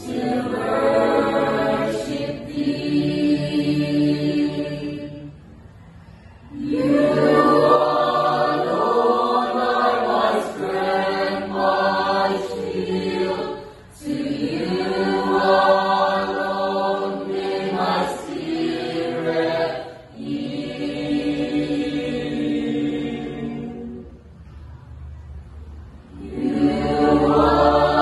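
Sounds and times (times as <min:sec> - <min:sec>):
church choir singing: 0:00.0 - 0:05.6, 0:06.5 - 0:24.2, 0:26.0 - 0:28.0.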